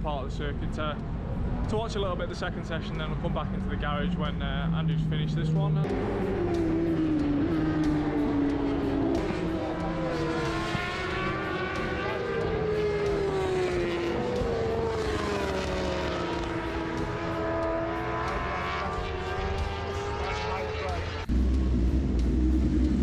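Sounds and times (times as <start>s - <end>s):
motorbike engines racing: 0.0s - 23.0s.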